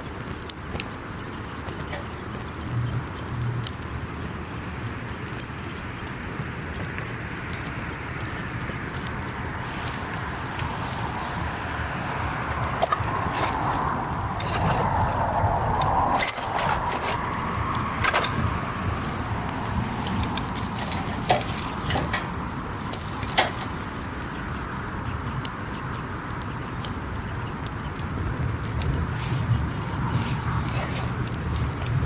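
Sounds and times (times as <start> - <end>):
campfire crackling and popping: 0.0 - 32.0
flames rushing: 0.0 - 32.0.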